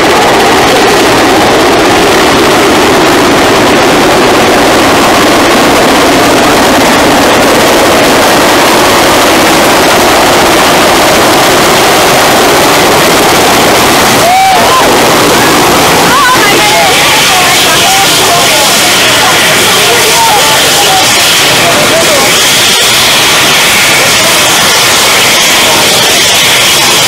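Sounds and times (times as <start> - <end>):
helicopter rotors and turbines: 0.0 - 27.0.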